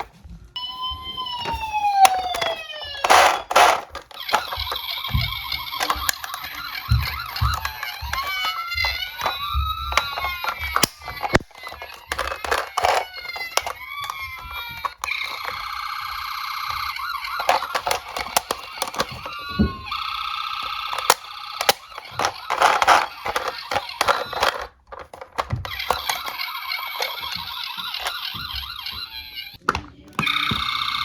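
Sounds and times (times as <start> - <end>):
toy cars clicking: 0.0 - 31.0
toy sirens: 0.0 - 31.0.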